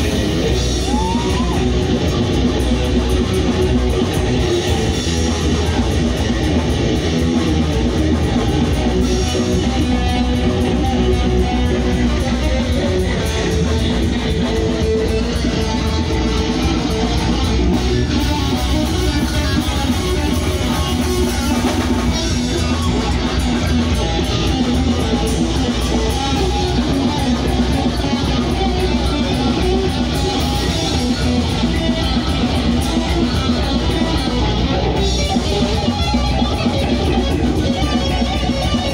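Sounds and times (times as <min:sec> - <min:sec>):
bass guitar: 0:00.0 - 0:38.9
drums with fast cymbal strokes: 0:00.0 - 0:38.9
electric guitar: 0:00.0 - 0:38.9.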